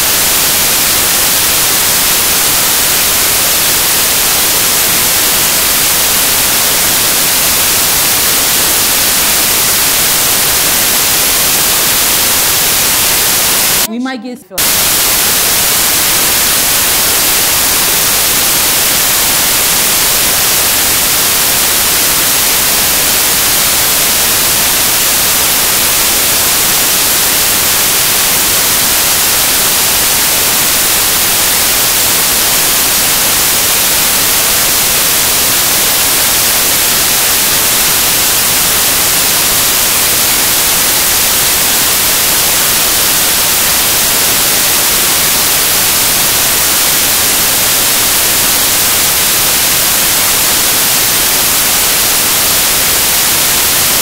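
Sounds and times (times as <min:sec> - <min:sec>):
static hiss: 0:00.0 - 0:13.9, 0:14.6 - 0:54.0.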